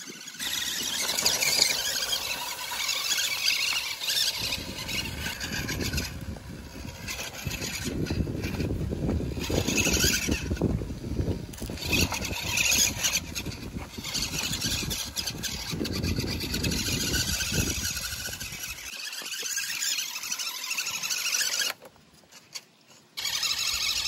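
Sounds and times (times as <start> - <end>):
electric drivetrain whine: 0.0 - 24.0
tyres crunching over ground: 0.1 - 24.0.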